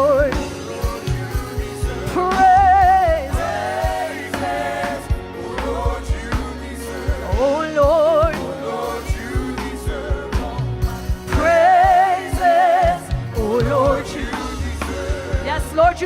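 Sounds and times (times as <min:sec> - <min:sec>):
bass: 0:00.0 - 0:16.0
choir voices: 0:00.0 - 0:16.0
person singing with vibrato: 0:00.0 - 0:16.0
steady drum beat: 0:00.0 - 0:16.0.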